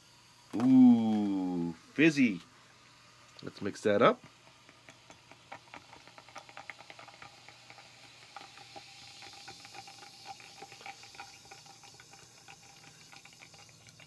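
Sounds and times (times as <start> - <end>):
soda powder fizzing in water: 0.0 - 14.0.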